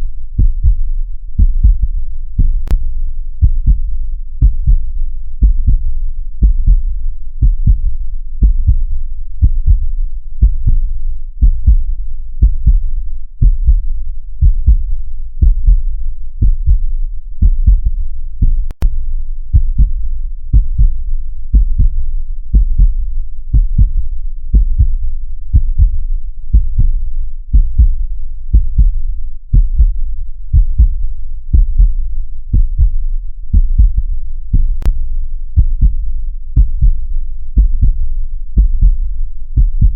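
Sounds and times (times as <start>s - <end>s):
heartbeat thumping: 0.4s - 0.8s, 1.4s - 2.8s, 3.4s - 4.8s, 5.4s - 6.8s, 7.4s - 35.0s, 35.6s - 36.0s, 36.6s - 39.0s, 39.6s - 39.9s.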